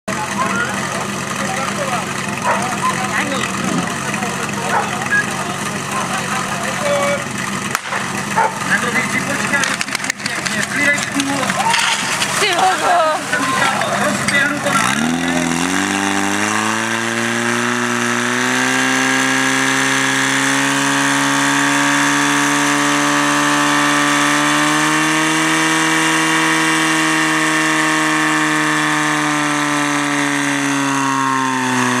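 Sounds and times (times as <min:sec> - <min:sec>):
pump petrol engine running hard: 0:00.1 - 0:32.0.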